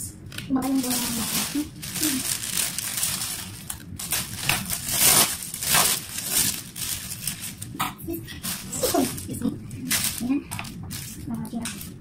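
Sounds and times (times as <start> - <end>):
plastic wrapping crinkling: 0.3 - 12.0.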